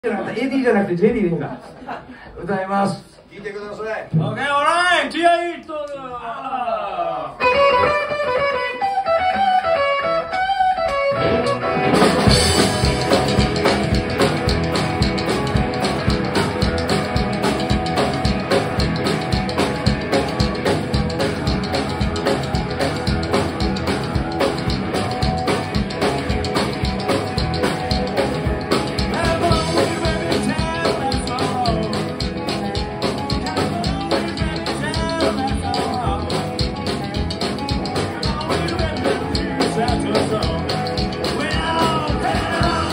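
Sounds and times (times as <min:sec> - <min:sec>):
rockabilly band playing: 0:07.3 - 0:42.9
electric guitar lead: 0:07.4 - 0:42.9.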